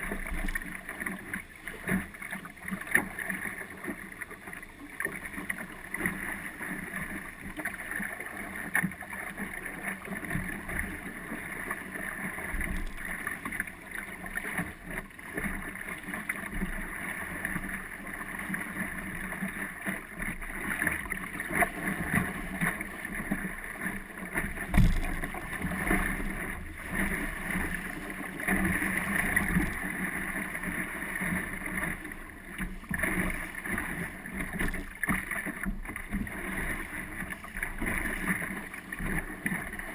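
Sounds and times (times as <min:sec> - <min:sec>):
water rushing along boat hull: 0:00.0 - 0:39.9.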